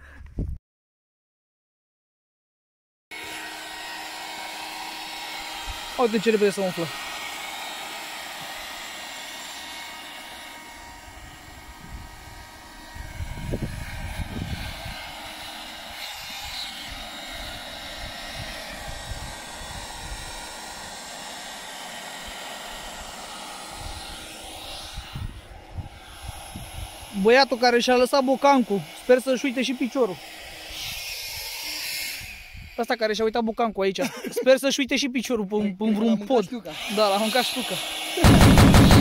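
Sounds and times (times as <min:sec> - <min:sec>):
electric air pump whining: 0:03.1 - 0:33.4, 0:36.4 - 0:39.0.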